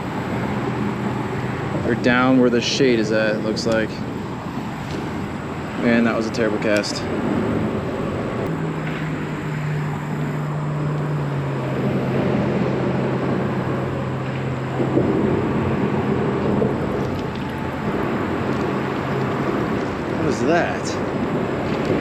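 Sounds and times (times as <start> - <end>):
highway traffic rumble: 0.0 - 22.0.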